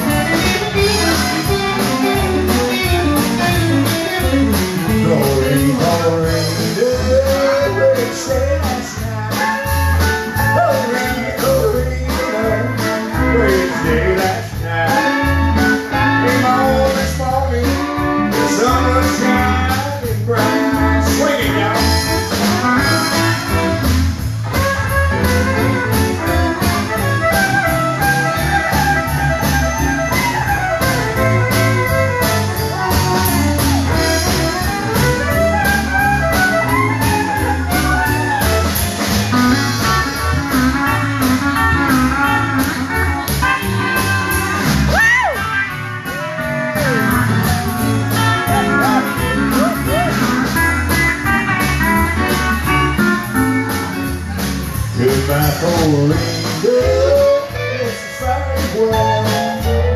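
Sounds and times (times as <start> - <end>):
drum beat: 0.0 - 57.5
electric bass: 0.0 - 59.9
electric guitar: 0.0 - 59.9
pedal steel guitar: 0.0 - 59.9.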